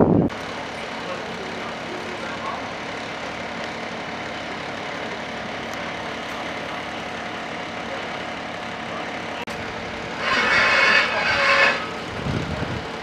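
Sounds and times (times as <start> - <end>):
fire engine idling: 0.0 - 13.0.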